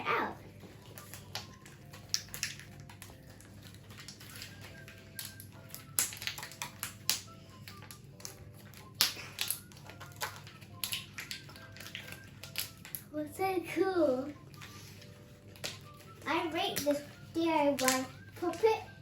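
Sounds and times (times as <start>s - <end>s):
faint background music: 0.0s - 19.0s
plastic blister bubbles popping: 0.3s - 13.1s, 14.4s - 19.0s.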